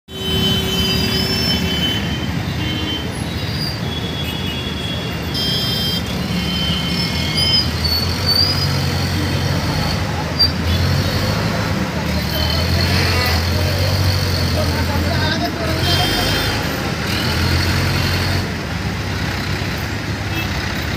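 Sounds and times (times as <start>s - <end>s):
auto-rickshaw and motorcycle engines: 0.1s - 20.9s.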